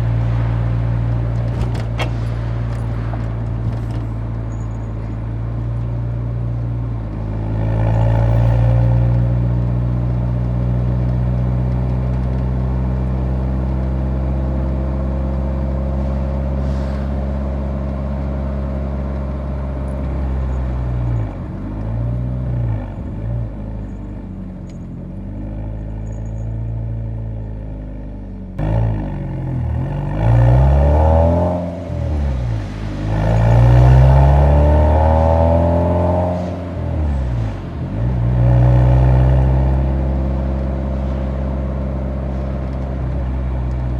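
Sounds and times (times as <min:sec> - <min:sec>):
car exhaust while driving: 0:00.0 - 0:43.9.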